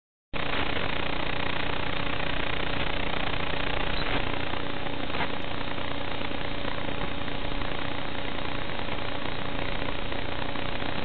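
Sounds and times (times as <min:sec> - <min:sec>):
steady static hiss: 0:00.4 - 0:11.0.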